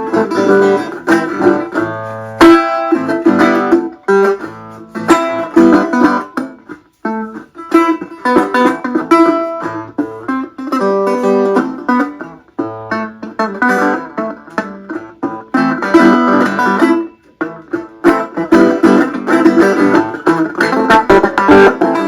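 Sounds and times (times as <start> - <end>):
resonator guitar picked notes: 0.0 - 22.0.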